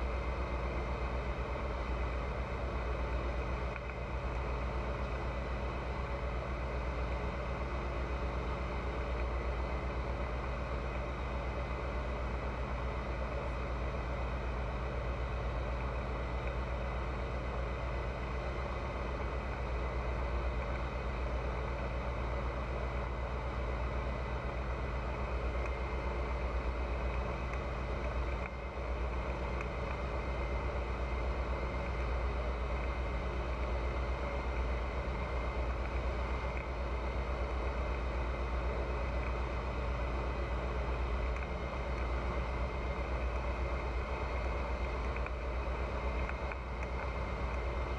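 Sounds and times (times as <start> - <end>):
light aircraft engine drone: 0.0 - 47.9.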